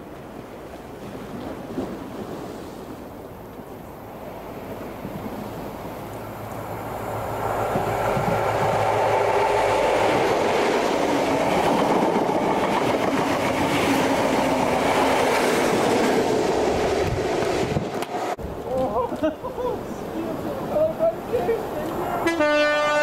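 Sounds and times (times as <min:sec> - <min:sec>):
train passing at speed: 0:00.0 - 0:18.6, 0:19.5 - 0:23.0.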